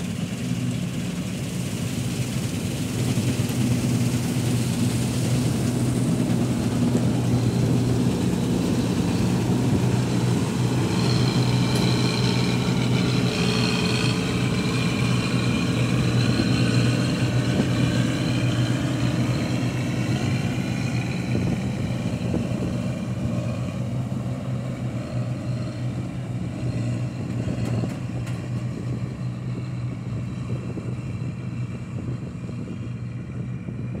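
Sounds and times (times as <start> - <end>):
combine harvester running: 0.0 - 34.0.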